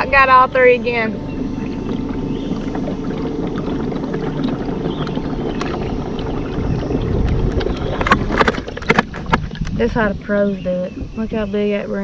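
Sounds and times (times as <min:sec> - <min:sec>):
water rushing: 0:00.0 - 0:10.9
wind noise: 0:00.0 - 0:12.0.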